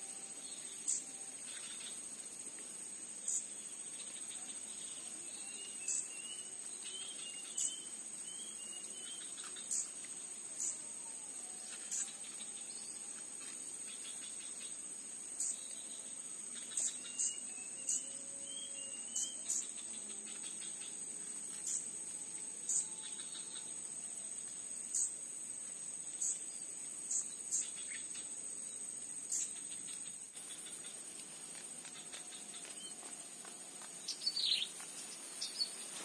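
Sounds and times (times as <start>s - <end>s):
insects droning and chirping: 0.0s - 36.0s.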